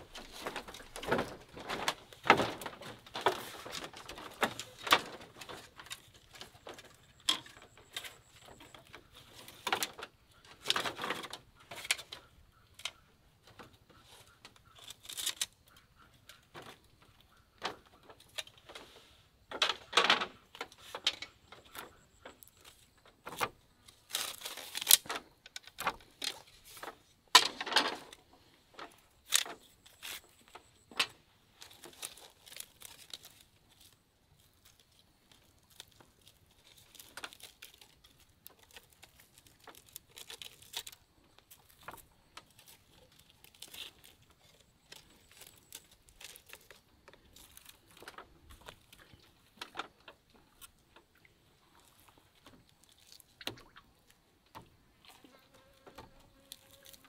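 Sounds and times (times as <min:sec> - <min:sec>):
dry fish crackling and tearing: 0:00.0 - 0:18.8, 0:19.7 - 0:55.2, 0:55.8 - 0:57.0
bamboo sticks clacking: 0:00.0 - 0:54.7, 0:55.8 - 0:57.0.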